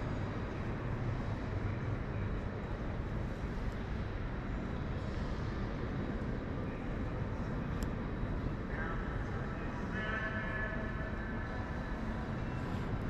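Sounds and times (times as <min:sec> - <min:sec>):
low rumble in large hall: 0:00.0 - 0:13.0.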